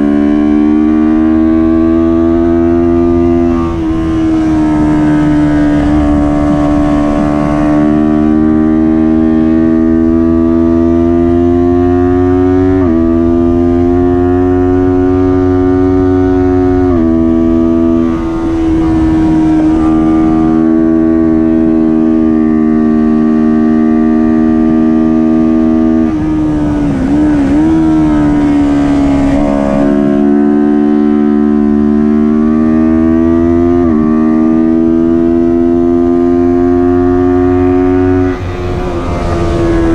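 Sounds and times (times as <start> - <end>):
motorcycle engine revving hard: 0.0 - 39.9.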